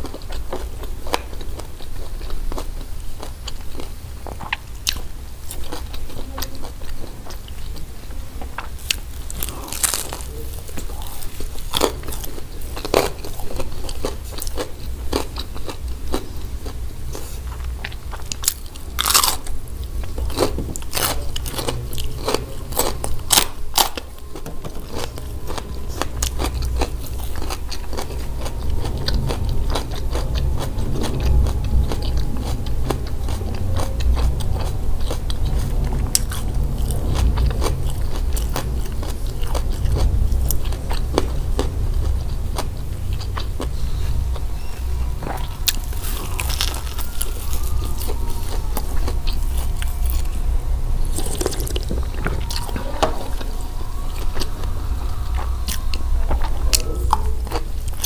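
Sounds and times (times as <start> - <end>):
crisp crust crackling: 0.0 - 58.0
crunchy chewing: 0.0 - 58.0.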